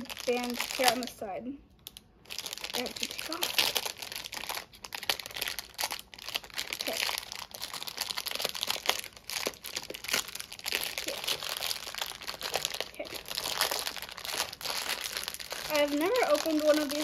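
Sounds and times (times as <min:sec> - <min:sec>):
foil wrapping crinkling: 0:00.0 - 0:01.2, 0:01.8 - 0:17.0.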